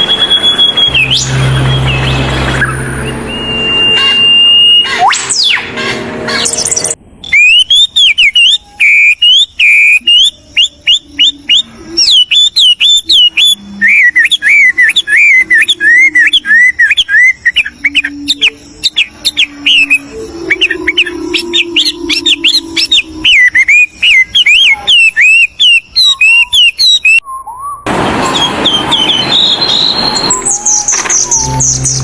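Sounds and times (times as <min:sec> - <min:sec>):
songbird singing: 0:00.0 - 0:32.0.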